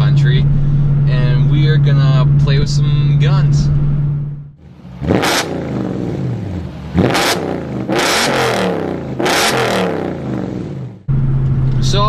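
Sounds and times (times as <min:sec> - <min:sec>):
car engine revving: 0:00.0 - 0:12.0
exhaust rush: 0:00.0 - 0:12.0.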